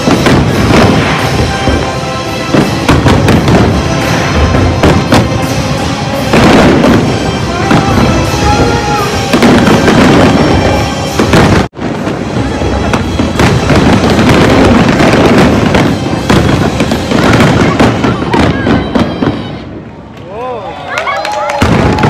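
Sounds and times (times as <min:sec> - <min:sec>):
music: 0:00.0 - 0:19.3
fireworks crackling and bursting: 0:00.0 - 0:20.4, 0:21.0 - 0:22.0.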